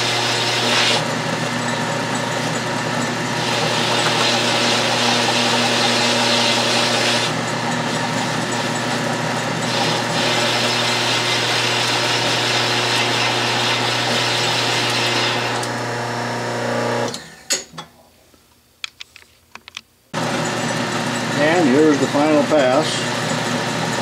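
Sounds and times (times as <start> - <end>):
metal lathe motor hum: 0.0 - 17.3, 20.2 - 24.0.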